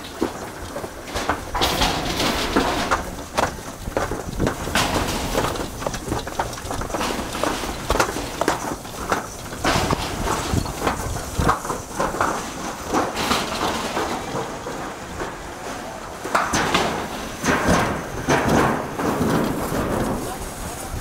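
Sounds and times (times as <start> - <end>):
sled rumbling down metal chute: 0.0 - 21.0.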